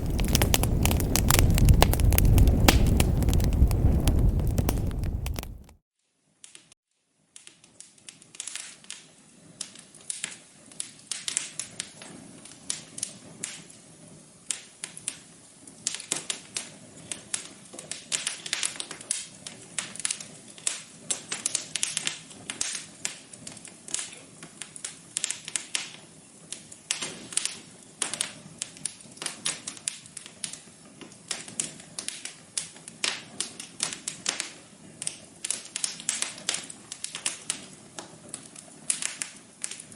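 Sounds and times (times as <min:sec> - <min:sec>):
wood fire crackling: 0:00.0 - 0:05.8, 0:07.8 - 0:39.9.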